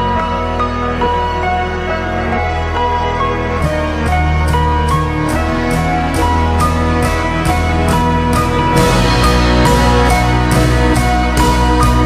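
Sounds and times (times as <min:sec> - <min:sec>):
slow soft instrumental music: 0:00.0 - 0:12.0.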